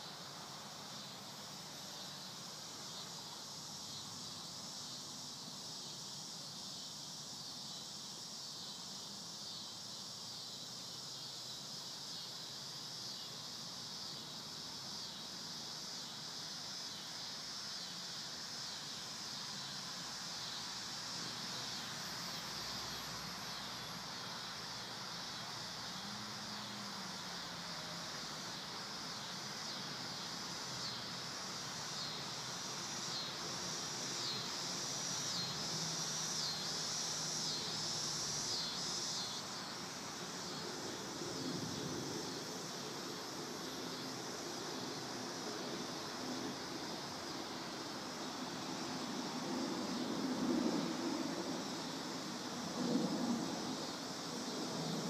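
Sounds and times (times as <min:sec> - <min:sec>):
insects chirping in a field: 0:00.0 - 0:55.0.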